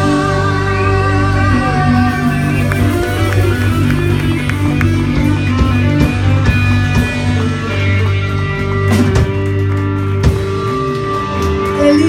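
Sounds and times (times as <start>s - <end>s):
bass guitar: 0.0s - 12.0s
electric guitars: 0.0s - 12.0s
drum kit: 1.8s - 12.0s.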